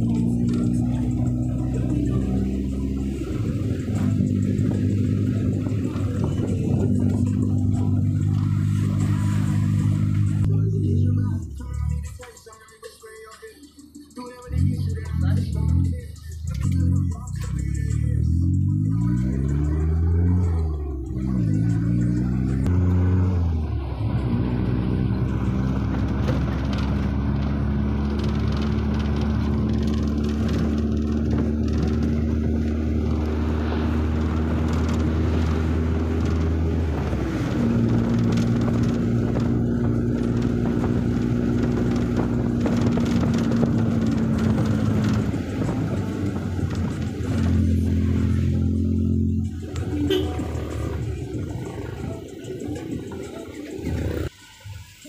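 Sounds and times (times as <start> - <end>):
car engine: 0.0 - 55.0
road noise inside car: 0.0 - 55.0.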